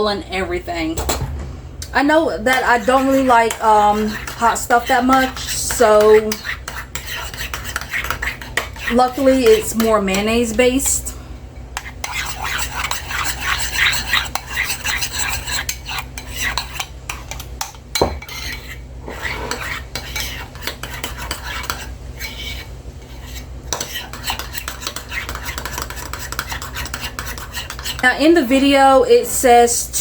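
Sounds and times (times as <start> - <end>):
utensil stirring thick sauce: 2.5 - 10.6, 11.8 - 28.1.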